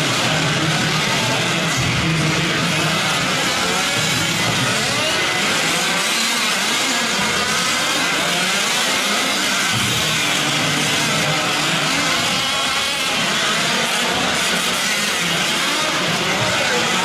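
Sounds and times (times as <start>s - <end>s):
small two-stroke engines racing: 0.0s - 17.0s.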